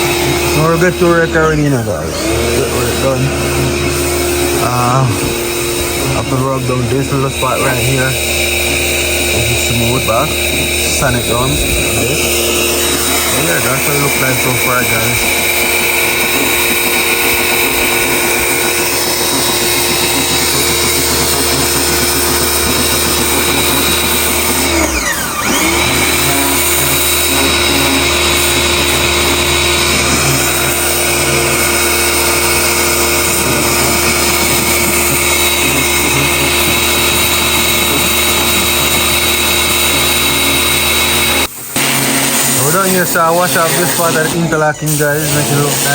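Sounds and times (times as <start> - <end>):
pressure washer motor hum: 0.0 - 45.9
pressure washer spray hiss: 0.0 - 45.9.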